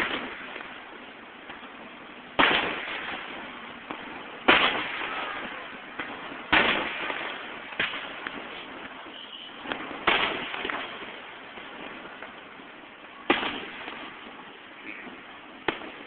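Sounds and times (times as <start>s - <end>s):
faint fireworks pops: 0.0s - 16.0s
fireworks shells bursting: 0.0s - 16.0s.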